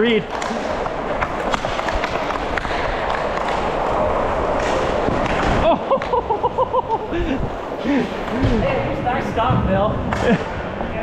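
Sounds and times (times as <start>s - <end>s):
hockey sticks and puck clacking: 0.0s - 11.0s
skate wheels rolling on plastic floor: 0.0s - 11.0s.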